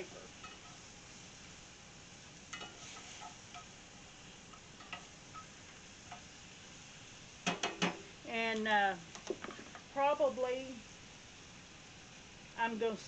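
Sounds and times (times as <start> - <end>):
food sizzling in butter: 0.0 - 13.0.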